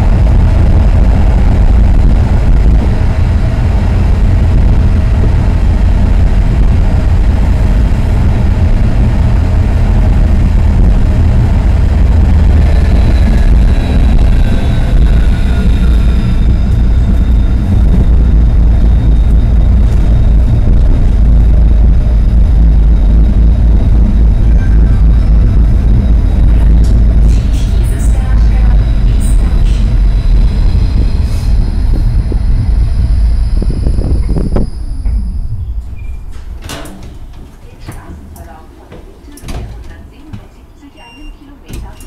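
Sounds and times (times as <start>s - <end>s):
faint descending whine: 0.0s - 36.7s
tram rumbling along track: 0.0s - 42.0s.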